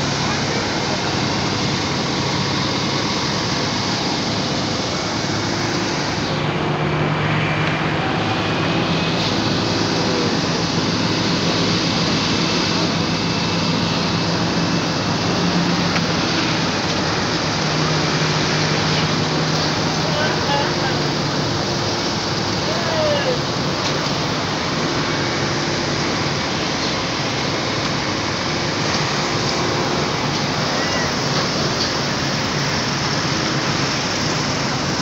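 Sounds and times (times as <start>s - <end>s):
low engine hum: 0.0s - 35.0s
road traffic rushing: 0.0s - 35.0s.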